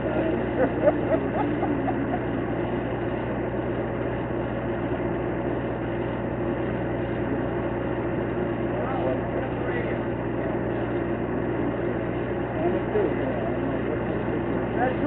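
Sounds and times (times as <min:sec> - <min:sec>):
distant voices: 0:00.0 - 0:05.1, 0:06.0 - 0:15.0
low engine hum: 0:00.0 - 0:15.0
street noise: 0:00.0 - 0:15.0.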